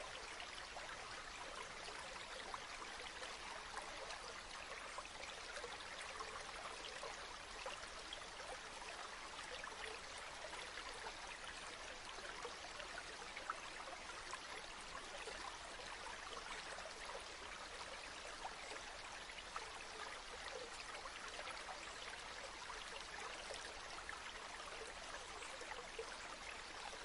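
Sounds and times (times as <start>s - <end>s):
stream flowing: 0.0s - 27.0s.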